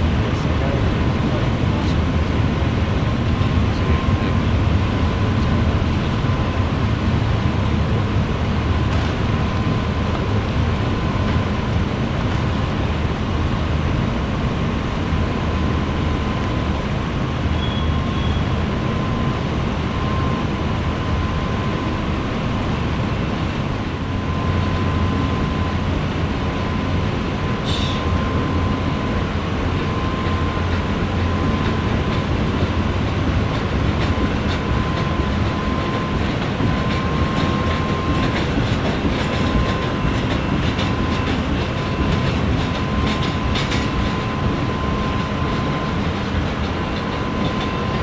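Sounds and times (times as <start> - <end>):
thin steady whine: 0.0 - 48.0
train wheels rumbling on rail: 0.0 - 48.0.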